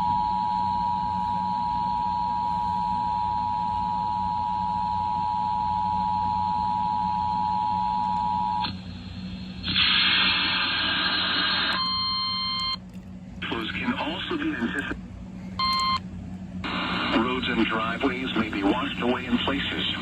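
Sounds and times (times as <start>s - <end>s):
low broadcast hum: 0.0s - 20.0s.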